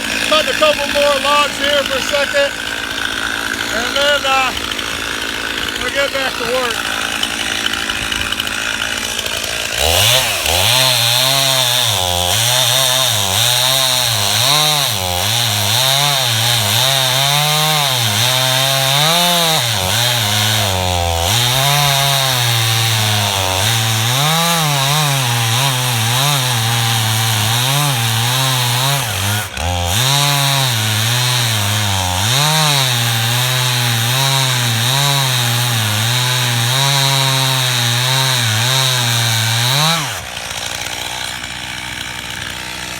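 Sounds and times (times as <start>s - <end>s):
chainsaw cutting log: 0.0s - 42.9s.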